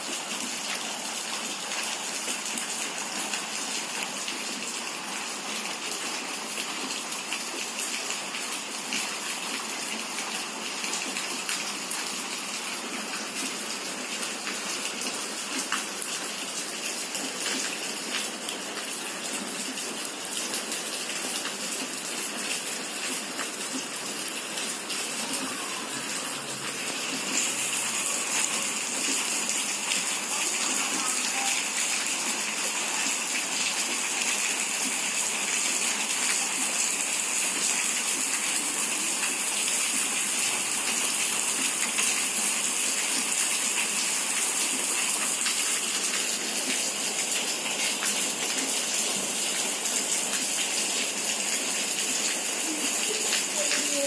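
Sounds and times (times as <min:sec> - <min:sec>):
rainwater rushing: 0:00.0 - 0:54.0.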